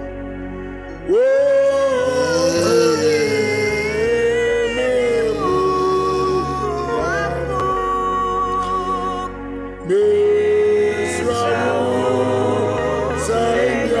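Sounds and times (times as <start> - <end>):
sustained low notes: 0.0 - 14.0
voice singing gliding melody: 0.9 - 14.0.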